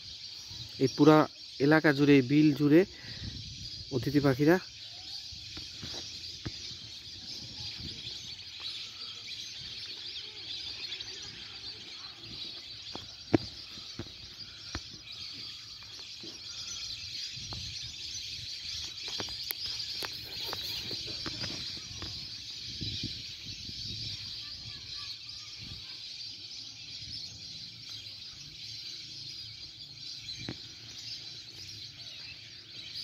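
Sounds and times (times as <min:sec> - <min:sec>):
bird calls and chirps: 0:00.0 - 0:33.0
high-pitched outdoor chorus hiss: 0:00.0 - 0:33.0.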